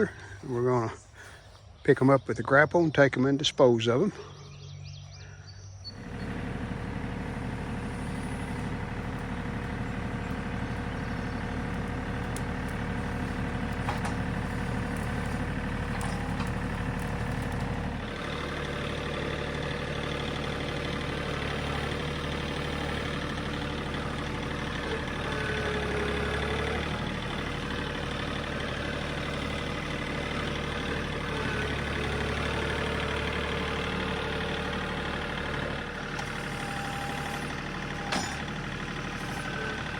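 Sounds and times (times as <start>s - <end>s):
tractor diesel engine running: 4.1s - 39.9s.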